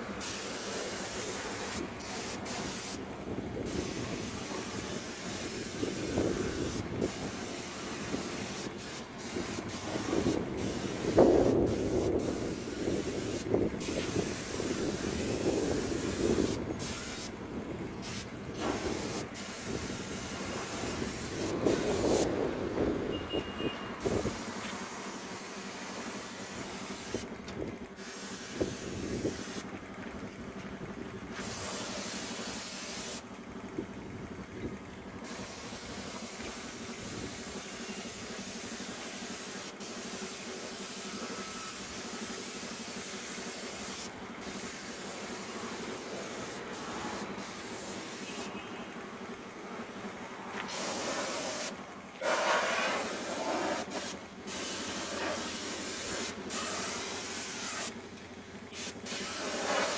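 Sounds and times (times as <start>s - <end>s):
spray gun hissing: 0.0s - 3.0s, 3.6s - 17.4s, 18.0s - 22.3s, 24.0s - 27.3s, 28.0s - 29.7s, 31.3s - 33.2s, 35.2s - 48.9s, 50.6s - 58.0s, 58.7s - 59.9s.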